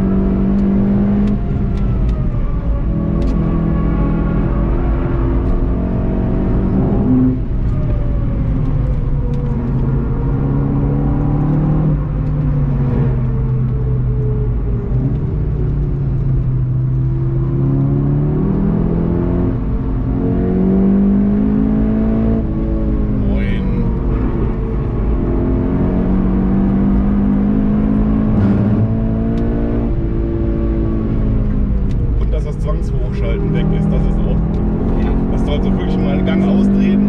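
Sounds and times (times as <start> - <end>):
race car engine: 0.0 - 37.0.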